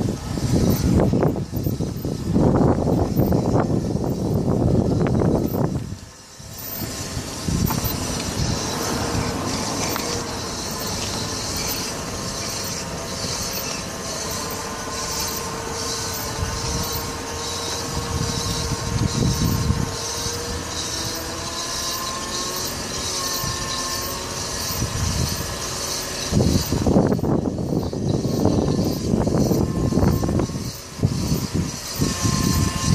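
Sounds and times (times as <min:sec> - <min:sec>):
metallic scraping squeal from wheel: 0:00.4 - 0:32.9.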